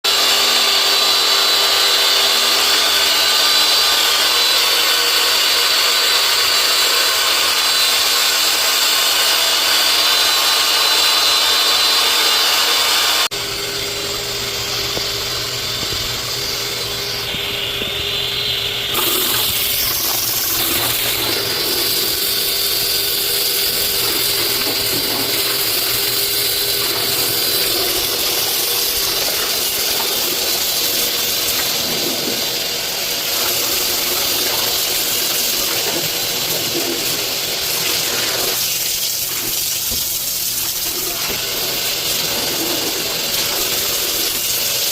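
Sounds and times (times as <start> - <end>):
motor noise with hiss: 0.1 - 44.9
steady machine noise: 0.1 - 44.9.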